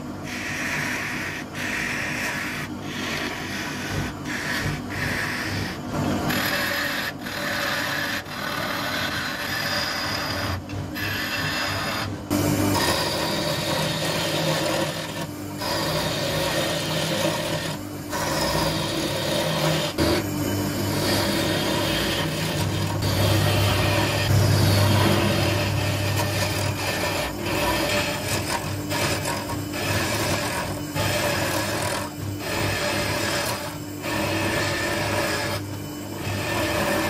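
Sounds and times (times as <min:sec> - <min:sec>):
gouge scraping spinning wood: 0:00.0 - 0:37.0
low machine hum: 0:00.0 - 0:37.0.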